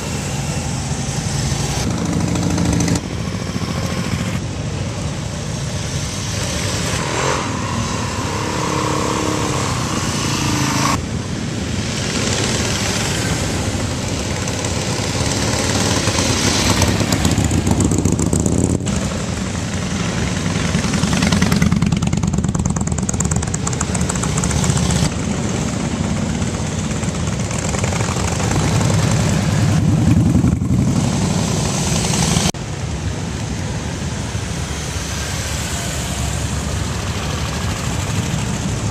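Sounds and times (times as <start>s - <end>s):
motorcycles passing by: 0.0s - 38.9s.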